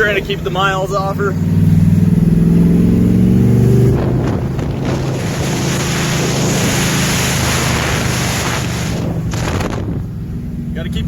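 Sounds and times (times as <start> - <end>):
car engine under throttle: 0.0 - 11.0
road and wind noise: 0.0 - 11.0.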